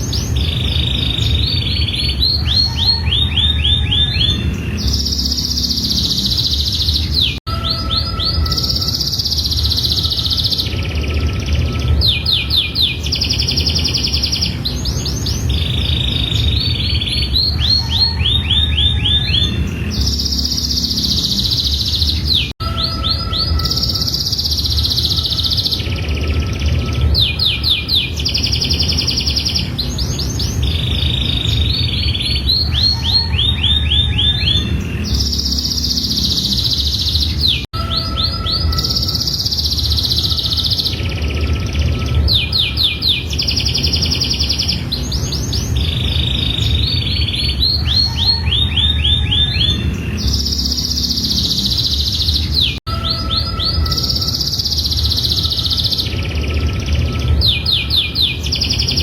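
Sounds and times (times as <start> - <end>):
canary singing trills and whistles: 0.0 - 59.0.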